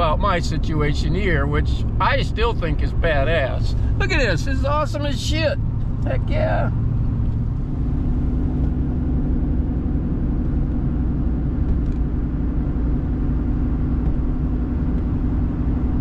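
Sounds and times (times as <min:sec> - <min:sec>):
constant low hum: 0:00.0 - 0:16.0
truck engine and road rumble: 0:00.0 - 0:16.0.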